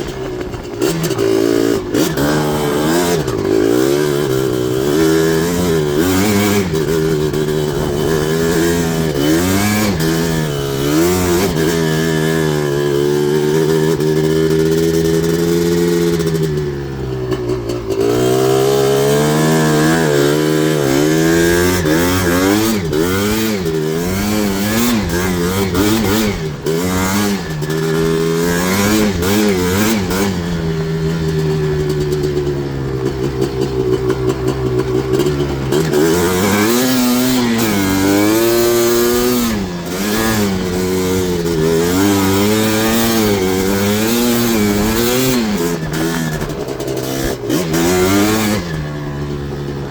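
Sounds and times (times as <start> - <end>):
two-stroke engine revving: 0.0 - 49.9.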